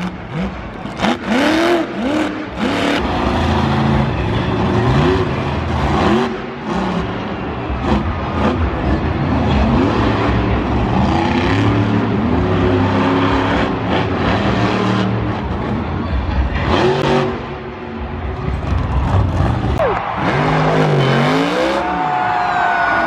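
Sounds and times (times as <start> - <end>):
truck engine revving: 0.0 - 22.3.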